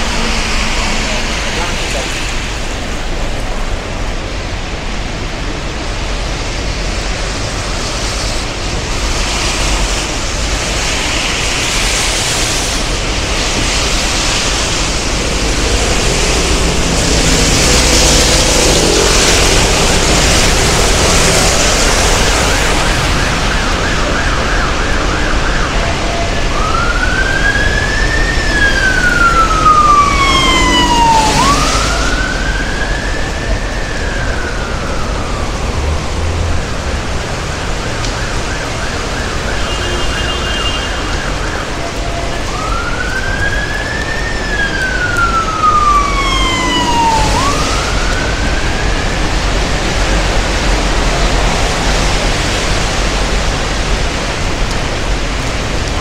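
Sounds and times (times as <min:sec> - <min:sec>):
emergency vehicle siren wailing: 0:00.0 - 0:04.4, 0:05.8 - 0:56.0
steady rain: 0:00.0 - 0:56.0
traffic hiss: 0:00.0 - 0:56.0.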